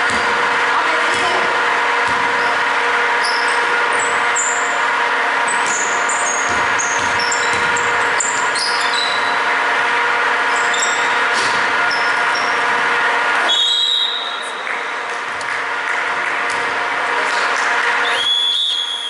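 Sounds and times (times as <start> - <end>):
steady hum in hall: 0.0 - 19.0.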